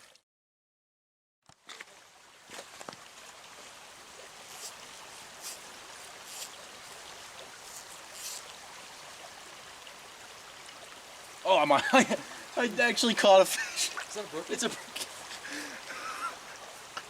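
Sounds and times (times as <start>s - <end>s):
stream running over rocks: 1.5s - 17.0s.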